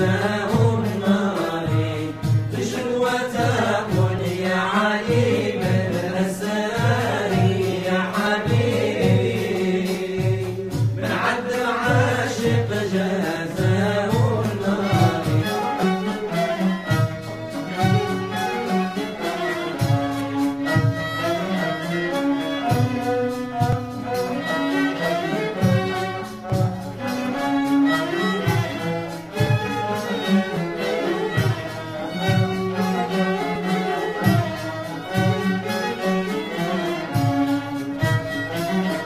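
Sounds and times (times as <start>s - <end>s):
bowed strings music: 0.0s - 39.0s.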